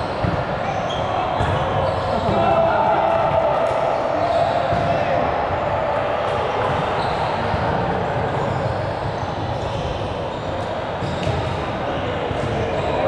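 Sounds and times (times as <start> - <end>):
indoor ball game noise: 0.0 - 13.0.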